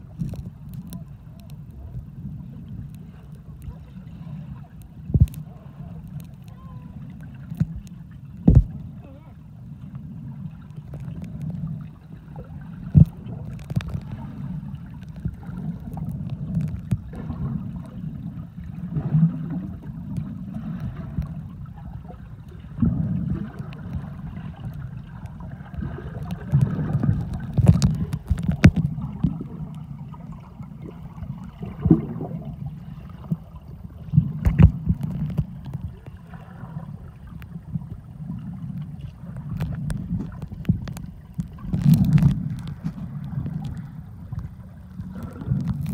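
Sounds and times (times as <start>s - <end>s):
muffled underwater water wash: 0.0s - 45.9s.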